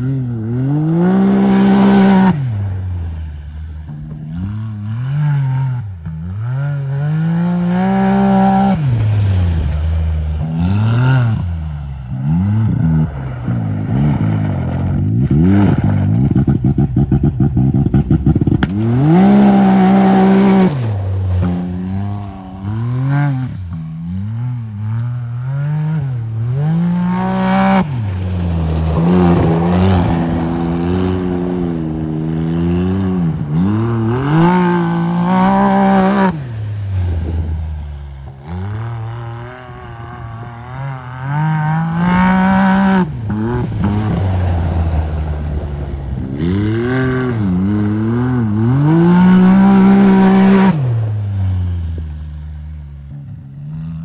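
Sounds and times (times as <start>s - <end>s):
engine revving hard: 0.0s - 2.7s, 4.3s - 37.6s, 38.3s - 45.6s, 46.2s - 52.0s.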